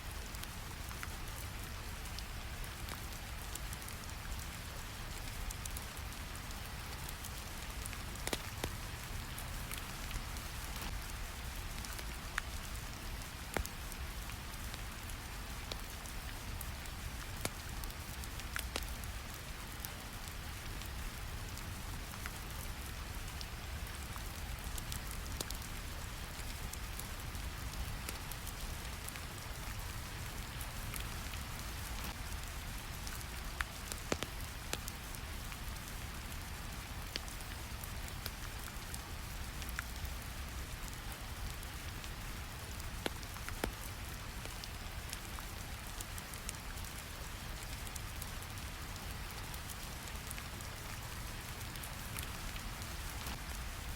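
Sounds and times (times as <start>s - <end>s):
steady rain: 0.0s - 53.9s
wood fire crackling: 0.1s - 53.9s.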